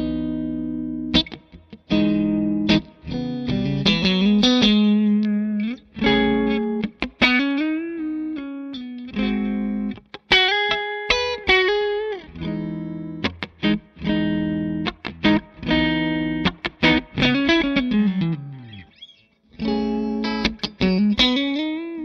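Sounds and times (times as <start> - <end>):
guitar music: 0.0 - 22.0.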